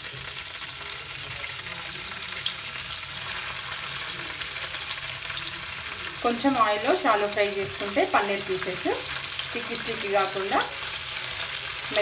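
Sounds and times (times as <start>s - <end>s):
paneer sizzling in oil: 0.0s - 12.0s.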